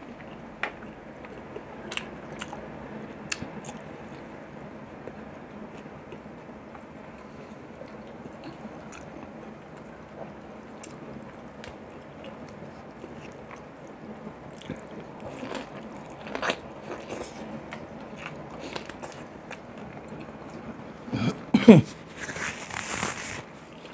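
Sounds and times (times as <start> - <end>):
man chewing food: 0.0 - 2.7, 3.3 - 4.3, 5.0 - 23.9.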